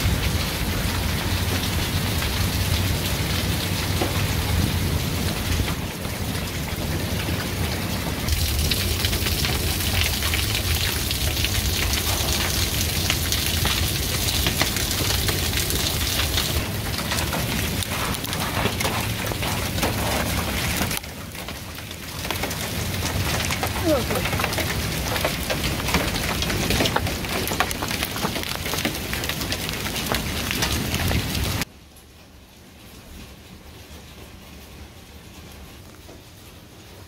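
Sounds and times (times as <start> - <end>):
hail pelting the ground: 0.0 - 37.0.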